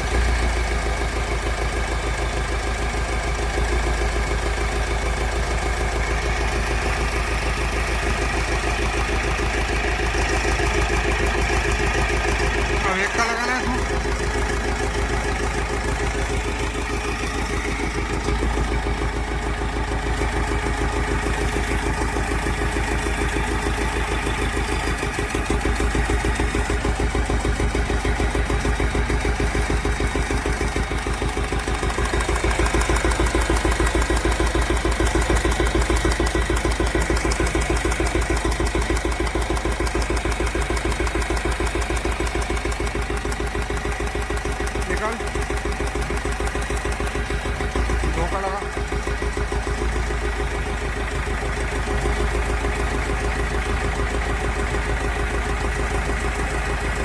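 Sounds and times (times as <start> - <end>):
diesel engine idling with knock: 0.0 - 57.0.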